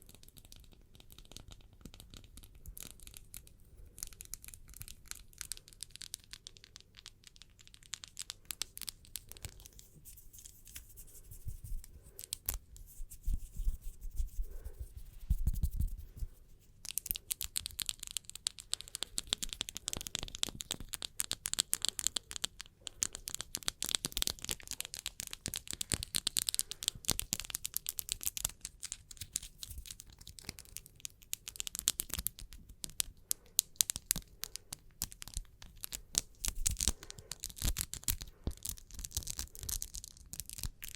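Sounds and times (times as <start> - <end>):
hands rubbing crackly scratching: 0.0 - 40.9.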